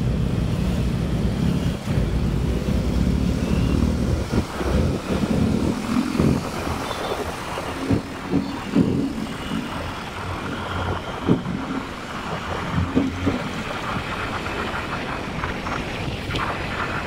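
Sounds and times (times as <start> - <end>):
motorcycle engine running: 0.0 - 17.0
road noise: 0.0 - 17.0
wind buffeting microphone: 0.0 - 17.0.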